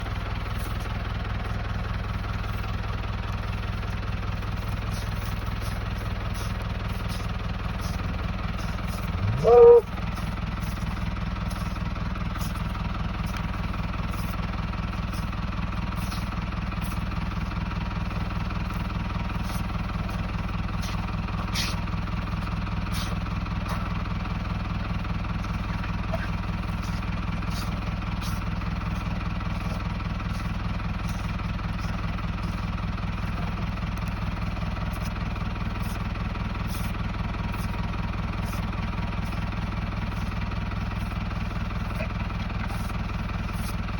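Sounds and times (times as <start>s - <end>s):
steady motor drone: 0.0s - 43.9s.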